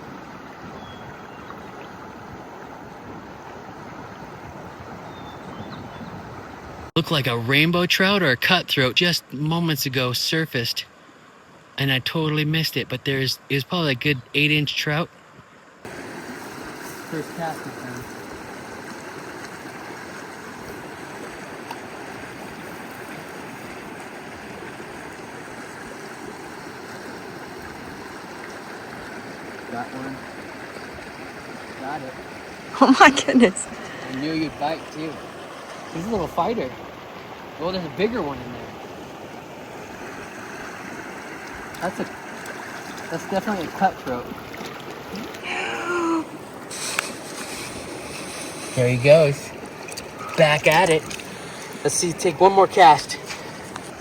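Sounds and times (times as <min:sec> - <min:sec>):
mountain stream rushing: 0:00.0 - 0:07.0, 0:15.8 - 0:54.0.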